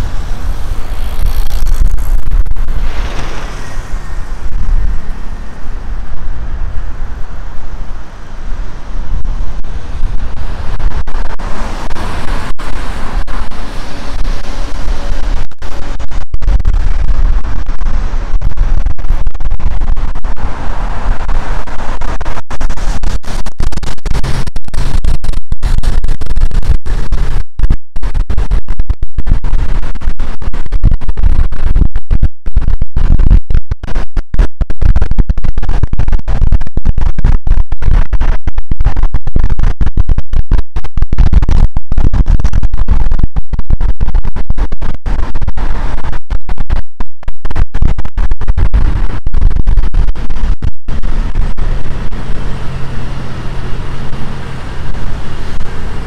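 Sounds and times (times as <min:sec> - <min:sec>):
wind buffeting microphone: 0:00.0 - 0:46.8, 0:47.4 - 0:56.0.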